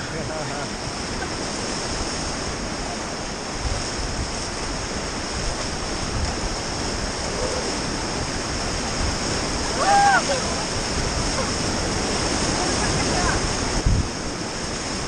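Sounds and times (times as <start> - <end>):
whitewater rapids roaring: 0.0 - 15.0.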